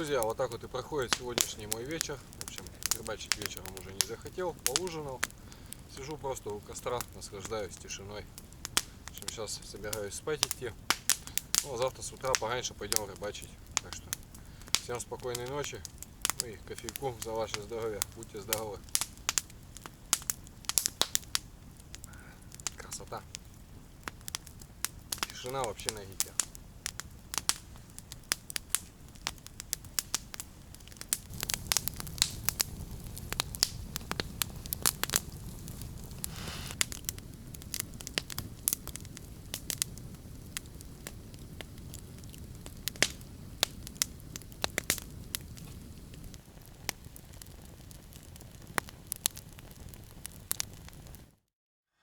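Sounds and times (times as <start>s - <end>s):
campfire crackling and popping: 0.0s - 51.4s.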